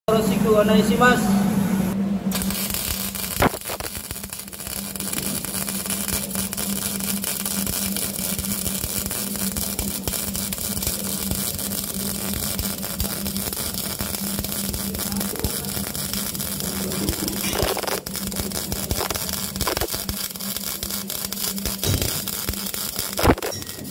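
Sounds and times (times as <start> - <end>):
constant hum: 0.1 - 23.9
welding arc crackling hiss: 2.3 - 23.9.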